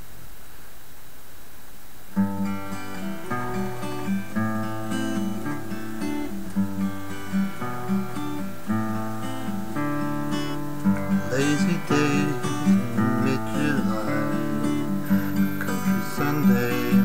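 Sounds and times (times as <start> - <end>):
acoustic guitar plucked melody: 2.1 - 17.0.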